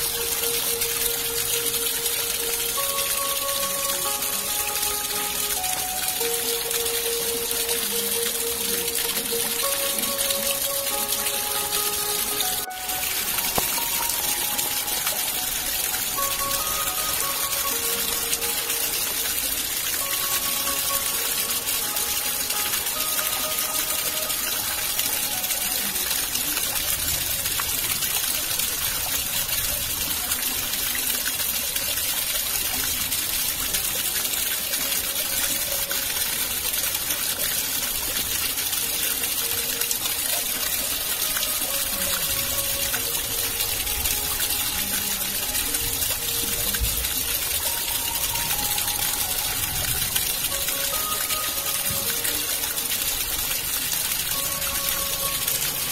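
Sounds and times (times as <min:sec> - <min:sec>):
fast-flowing water gushing: 0:00.0 - 0:55.9.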